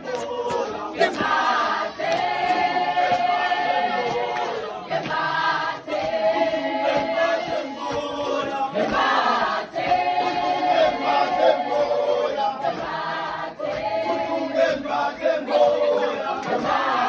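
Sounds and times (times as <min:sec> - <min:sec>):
group singing a hymn unaccompanied: 0:00.0 - 0:17.0.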